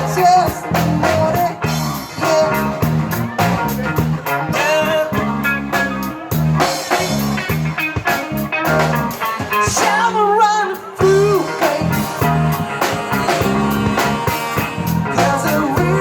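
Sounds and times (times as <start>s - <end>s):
drum kit beat: 0.0s - 16.0s
rock blues guitar: 0.0s - 16.0s.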